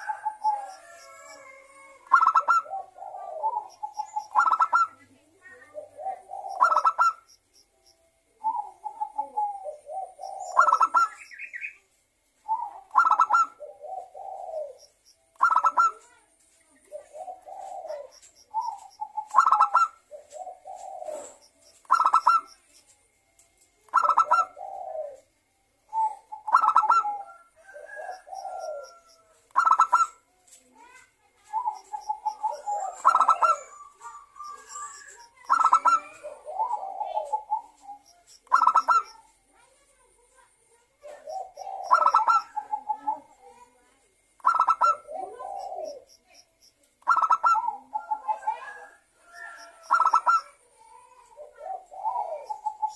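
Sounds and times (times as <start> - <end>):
dove cooing song: 0.0 - 7.4, 8.2 - 11.8, 12.4 - 22.7, 23.8 - 39.5, 41.0 - 46.3, 47.0 - 52.9.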